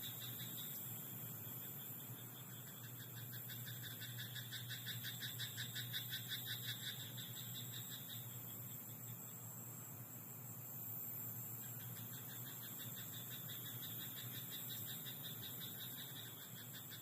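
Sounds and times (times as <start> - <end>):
frogs croaking: 0.0 - 17.0.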